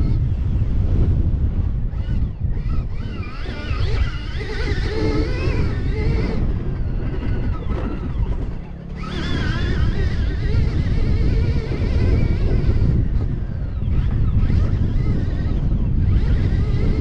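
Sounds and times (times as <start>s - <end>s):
electric motorbike motor whining: 0.0s - 17.0s
wind rumble on microphone: 0.0s - 17.0s.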